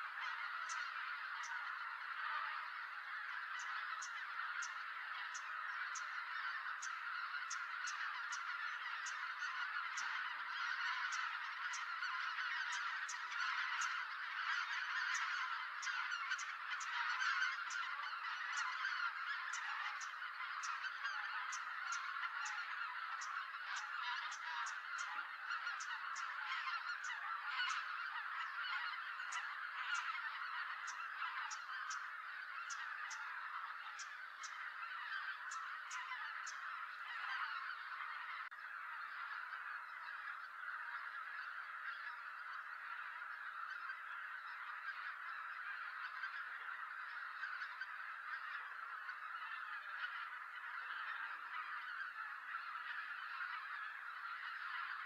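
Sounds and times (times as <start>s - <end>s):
flock of geese honking: 0.0s - 55.0s.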